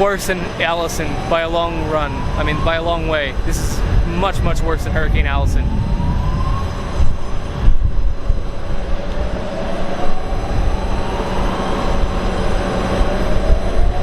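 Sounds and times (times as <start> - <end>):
distant siren wailing: 0.0 - 14.0
low rumble of generators: 0.0 - 14.0.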